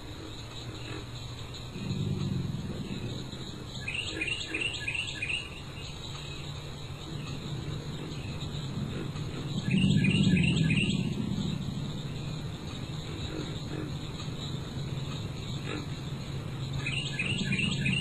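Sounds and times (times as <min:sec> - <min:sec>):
steady low rumble: 0:00.0 - 0:04.6, 0:05.6 - 0:18.0
songbird singing: 0:00.0 - 0:18.0.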